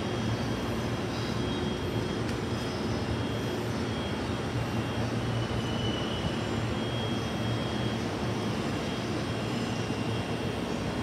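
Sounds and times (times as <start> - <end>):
faint high whine: 0.0 - 11.0
train rumbling by: 0.0 - 11.0.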